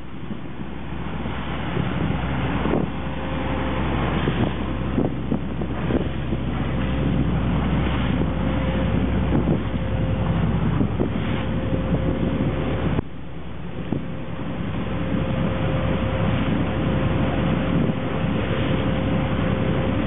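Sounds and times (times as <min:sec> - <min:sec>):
boat engine droning: 0:00.0 - 0:20.0
wind buffeting microphone: 0:00.0 - 0:20.0.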